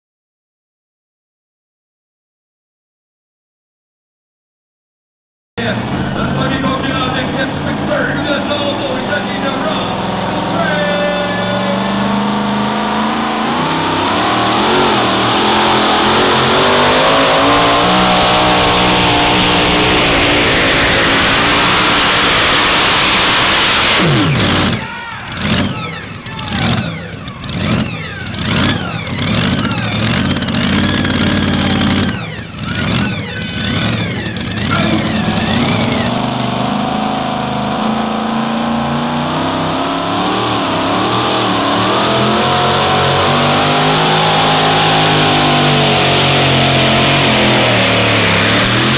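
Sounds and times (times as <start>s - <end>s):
truck engine revving: 5.6s - 48.9s.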